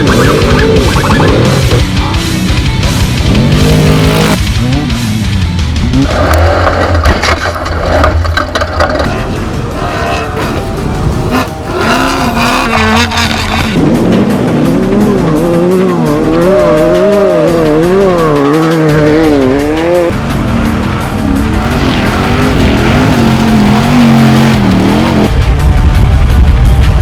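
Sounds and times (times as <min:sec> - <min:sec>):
race vehicle engine revving: 0:00.0 - 0:07.1, 0:07.7 - 0:25.4.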